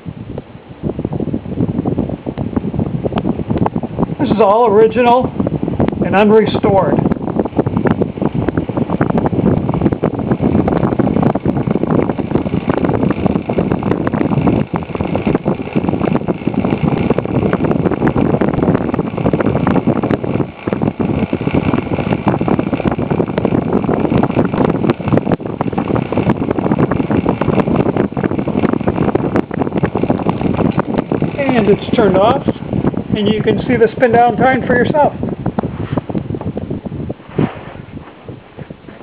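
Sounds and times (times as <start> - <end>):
fan airflow buffeting microphone: 0.0 - 39.0.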